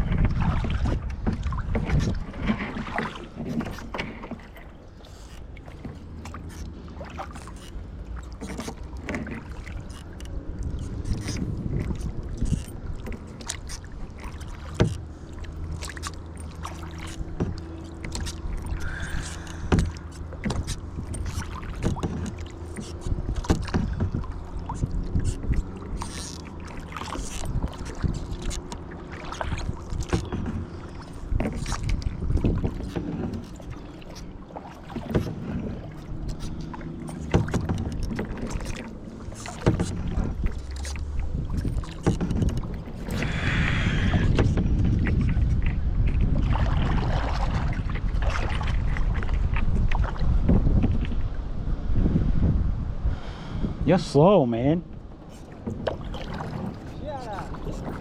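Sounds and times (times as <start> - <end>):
paddle strokes in water: 0.0 - 58.0
water sloshing around hull: 0.0 - 58.0.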